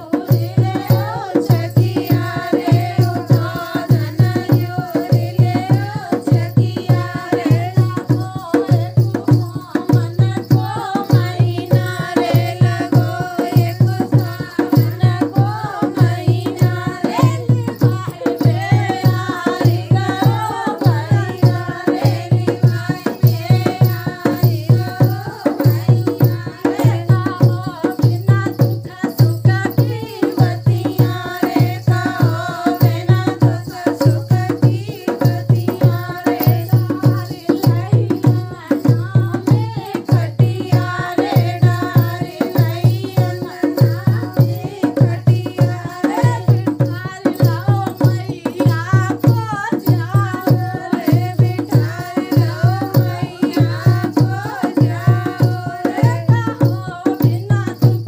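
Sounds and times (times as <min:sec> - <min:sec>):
person singing: 0:00.0 - 0:57.9
drum beat with percussion: 0:00.0 - 0:58.0.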